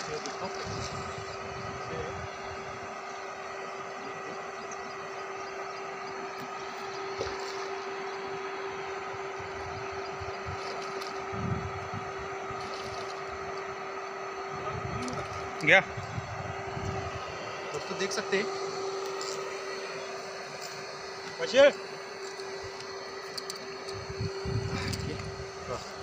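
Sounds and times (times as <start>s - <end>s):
motor droning: 0.0s - 26.0s.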